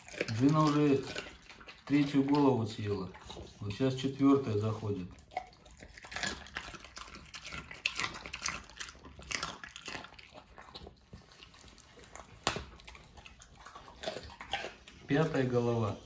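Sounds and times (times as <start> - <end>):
dog chewing and crunching bone: 0.0 - 16.0.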